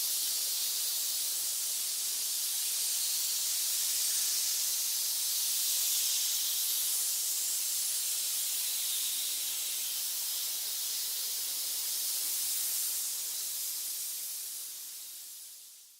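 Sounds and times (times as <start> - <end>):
snakes hissing: 0.0 - 15.7.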